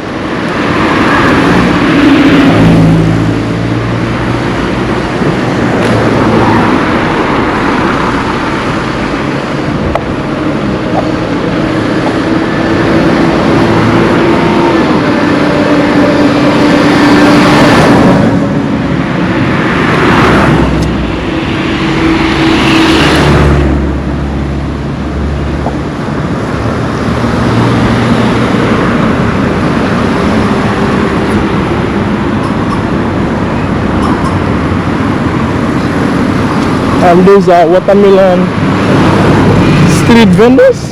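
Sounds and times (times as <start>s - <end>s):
steady traffic noise: 0.0s - 40.9s
vehicles passing by: 0.0s - 40.9s.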